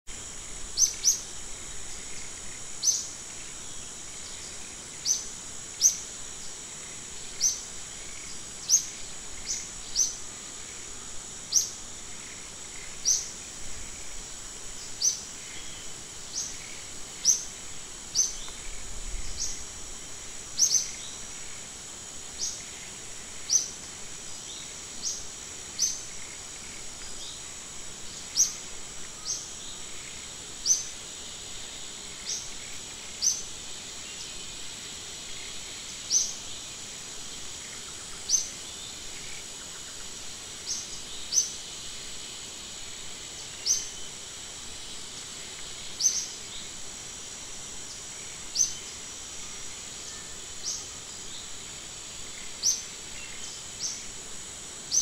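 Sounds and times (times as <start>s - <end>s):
high-pitched insect hum: 0.1s - 55.0s.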